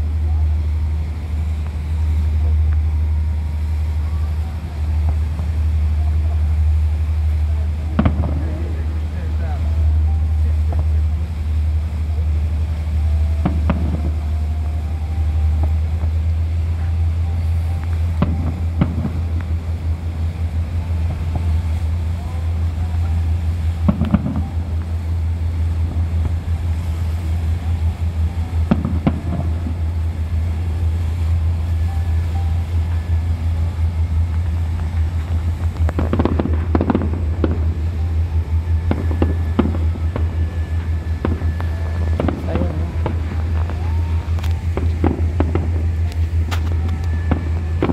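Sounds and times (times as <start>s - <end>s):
boat engine rumble: 0.0s - 47.9s
distant fireworks bangs: 0.0s - 47.9s.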